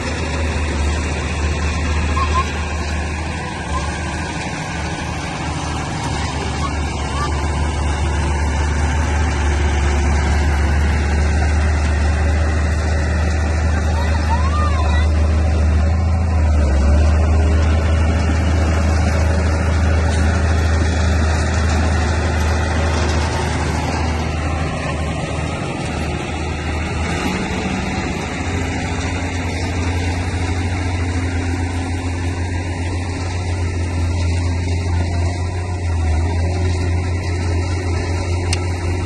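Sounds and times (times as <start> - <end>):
bulldozer diesel engine droning: 0.0 - 39.0.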